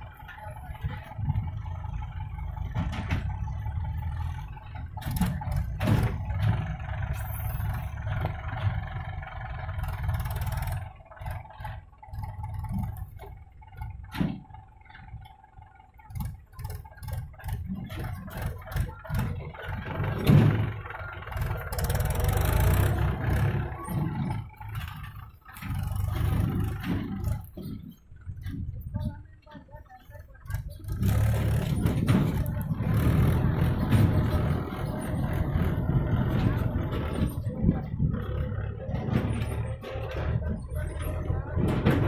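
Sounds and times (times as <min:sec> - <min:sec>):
diesel engine revving: 0:00.0 - 0:28.8, 0:30.4 - 0:42.0.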